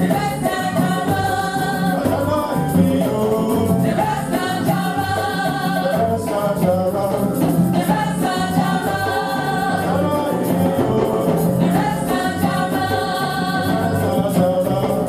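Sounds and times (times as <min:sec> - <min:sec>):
band with rhythmic bass line: 0:00.0 - 0:15.0
group singing gospel: 0:00.0 - 0:15.0.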